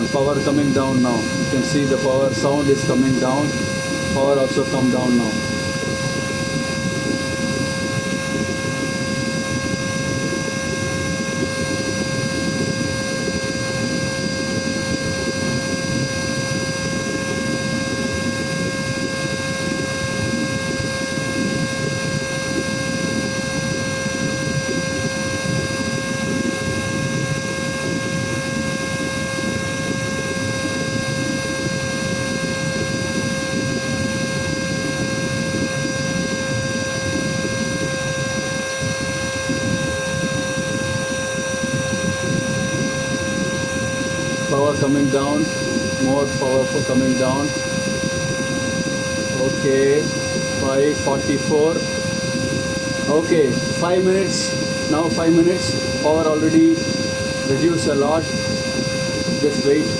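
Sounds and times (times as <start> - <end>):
vacuum cleaner motor whine: 0.0 - 59.9.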